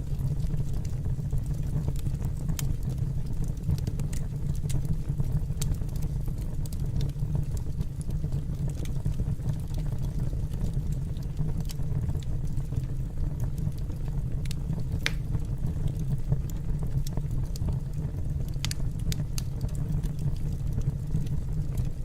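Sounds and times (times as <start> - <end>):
fire crackles and pops: 0.0 - 22.0
wood fire roaring: 0.0 - 22.0.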